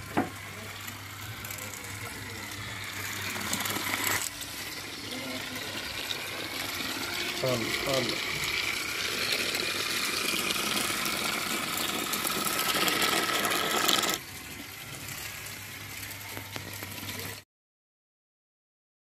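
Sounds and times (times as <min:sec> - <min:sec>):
toy motor whirring and rattling: 0:00.0 - 0:17.4
wheels on gravel: 0:00.0 - 0:17.4.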